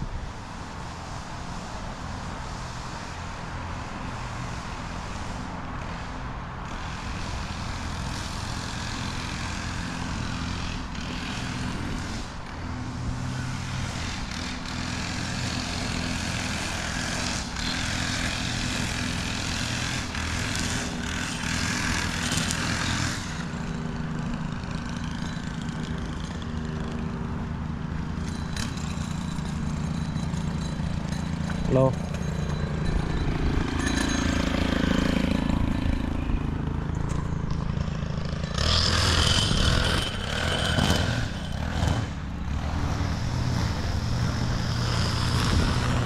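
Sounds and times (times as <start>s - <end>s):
large engine droning: 0.0s - 46.0s.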